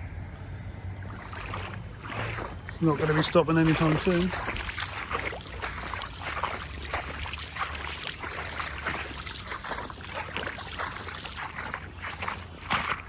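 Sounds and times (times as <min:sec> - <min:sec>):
wading through water: 0:01.0 - 0:13.0.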